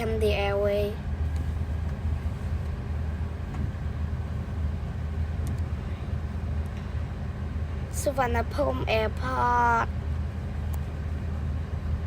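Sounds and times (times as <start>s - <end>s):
airliner engine rumble in cabin: 0.0s - 12.0s.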